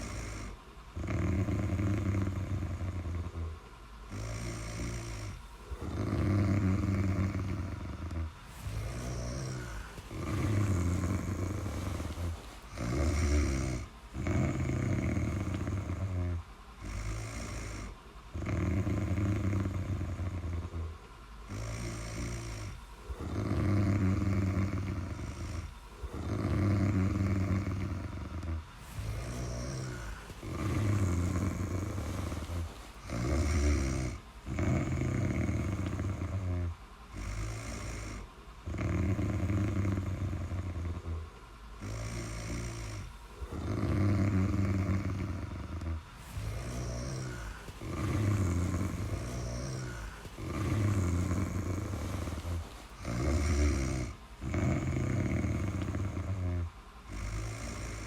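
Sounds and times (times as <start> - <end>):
person snoring: 0.0 - 58.0.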